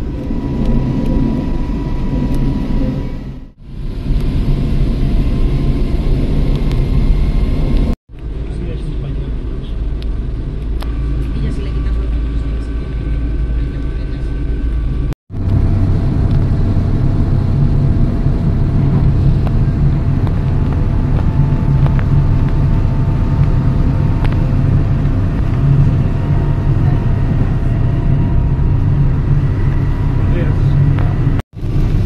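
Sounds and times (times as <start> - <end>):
low hum: 0.0 - 32.0
train rumble inside carriage: 0.0 - 32.0.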